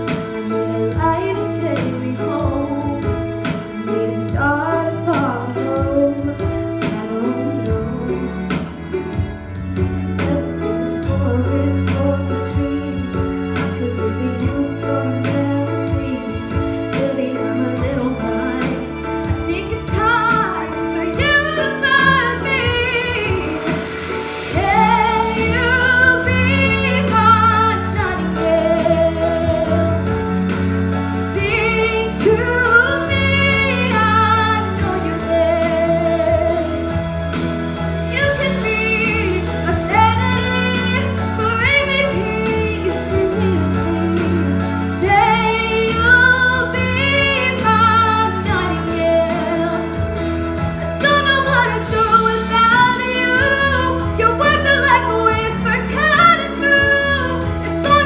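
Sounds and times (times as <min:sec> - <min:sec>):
instrumental backing chords: 0:00.0 - 0:58.0
woman singing a slow ballad: 0:00.8 - 0:09.2, 0:10.2 - 0:30.3, 0:31.2 - 0:37.0, 0:38.0 - 0:58.0.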